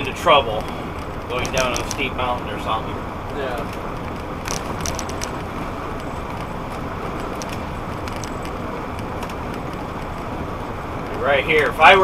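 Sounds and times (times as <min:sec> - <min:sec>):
bus engine drone: 0:00.0 - 0:12.0
road noise: 0:00.0 - 0:12.0.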